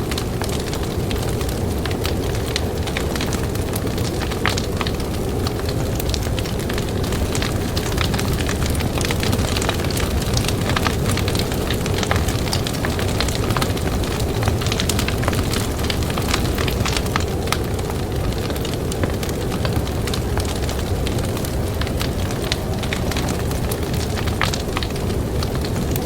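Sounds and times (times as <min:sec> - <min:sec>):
blizzard wind rumbling: 0:00.0 - 0:26.0
campfire crackling and popping: 0:00.0 - 0:26.0.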